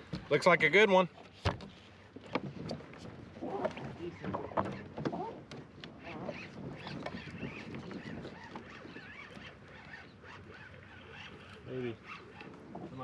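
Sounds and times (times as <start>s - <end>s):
water sloshing against hull: 0.0s - 13.0s.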